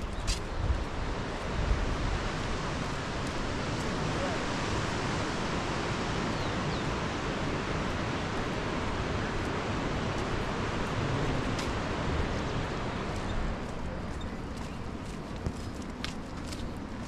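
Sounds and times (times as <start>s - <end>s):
river rushing over stones: 0.9s - 15.6s.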